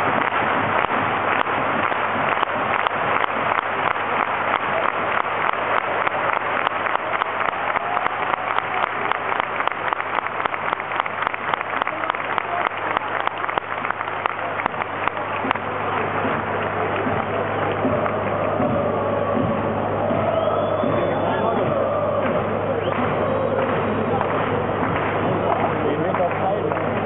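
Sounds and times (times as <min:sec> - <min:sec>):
stadium crowd clapping and cheering: 0:00.0 - 0:27.0.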